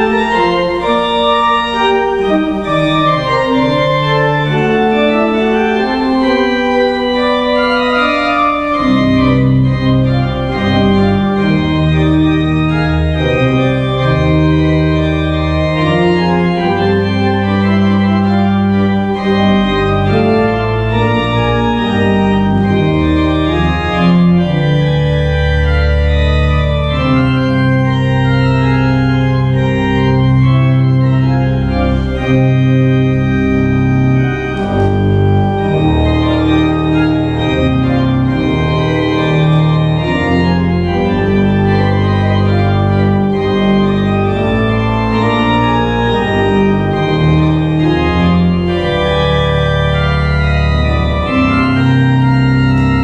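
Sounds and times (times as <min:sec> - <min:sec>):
church organ chords: 0:00.0 - 0:53.0
deep bass organ notes: 0:00.0 - 0:53.0.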